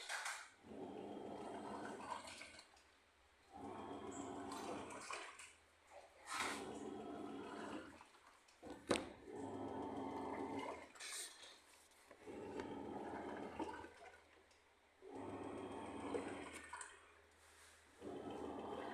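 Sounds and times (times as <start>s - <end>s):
water sloshing in washing machine: 0.0s - 2.9s, 3.5s - 17.3s, 18.0s - 18.9s.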